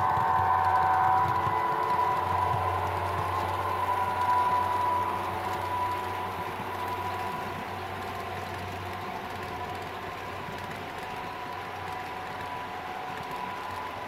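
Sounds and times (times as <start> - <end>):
model locomotives whining and humming: 0.0 - 14.0
model train cars rolling on track: 0.0 - 14.0.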